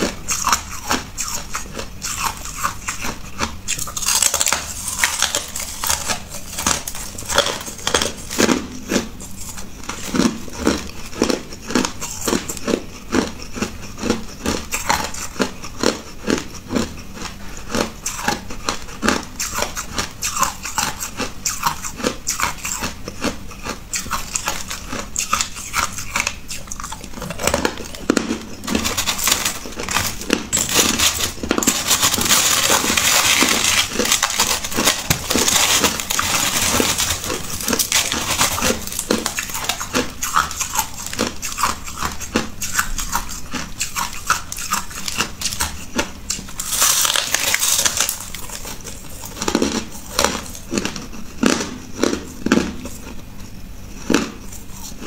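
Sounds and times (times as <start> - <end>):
ice crunching being chewed: 0.0 - 55.0.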